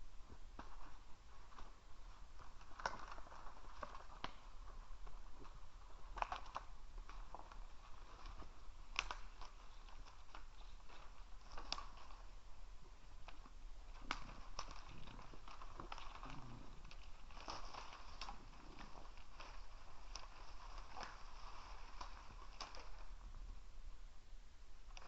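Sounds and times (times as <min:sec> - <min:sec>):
low steady hum: 0:00.0 - 0:25.0
animal chewing crunches: 0:02.6 - 0:23.2.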